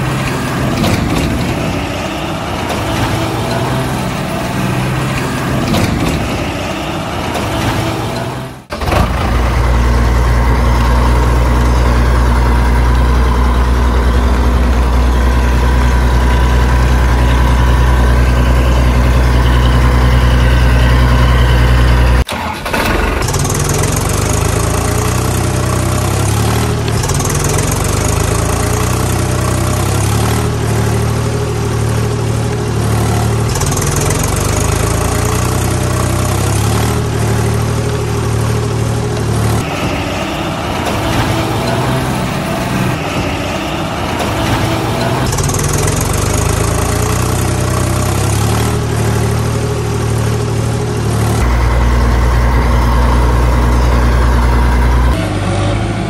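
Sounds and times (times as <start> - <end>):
engine running with deep throb: 0.0 - 56.0
engine with wavering pitch: 0.0 - 56.0.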